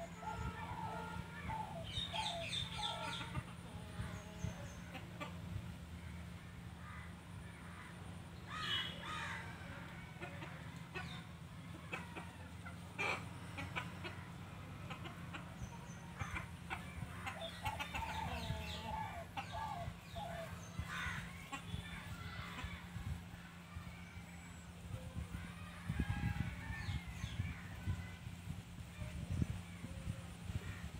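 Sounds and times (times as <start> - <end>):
chickens clucking: 0.0 - 8.3, 8.9 - 30.9
steady low hum: 0.0 - 30.9.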